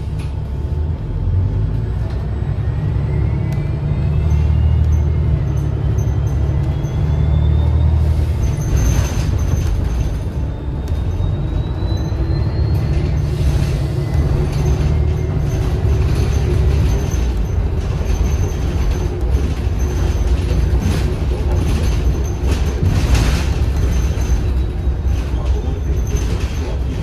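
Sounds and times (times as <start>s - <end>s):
bus drivetrain rumble: 0.0s - 27.0s.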